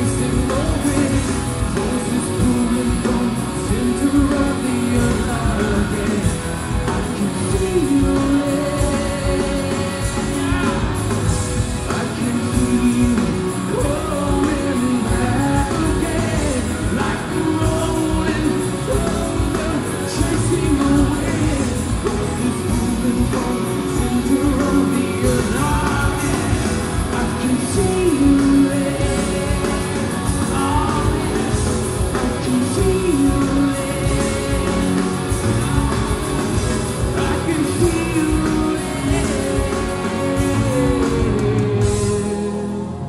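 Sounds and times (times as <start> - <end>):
drums: 0.0 - 43.0
electric guitars: 0.0 - 43.0
man singing: 0.0 - 43.0.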